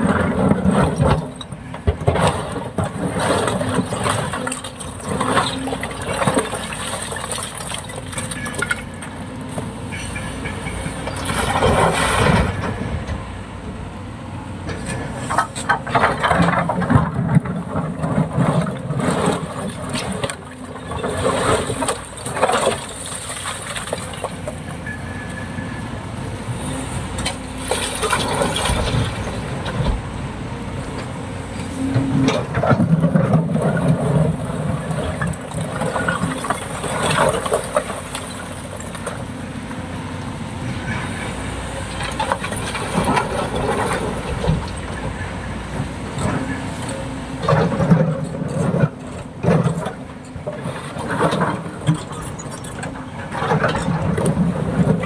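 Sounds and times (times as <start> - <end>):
excavator diesel engine: 0.0 - 55.0.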